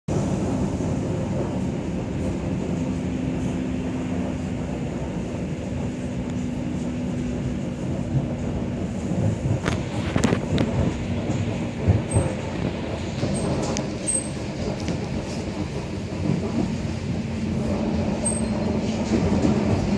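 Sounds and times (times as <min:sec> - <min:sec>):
train interior rumble: 0:00.1 - 0:19.9.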